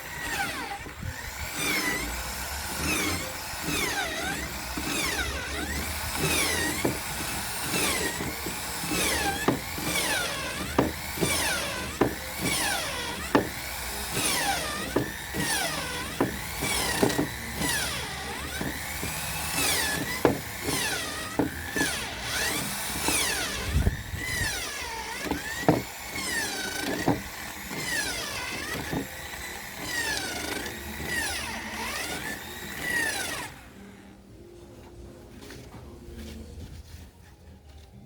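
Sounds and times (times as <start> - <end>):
electric drill running: 0.0 - 34.3.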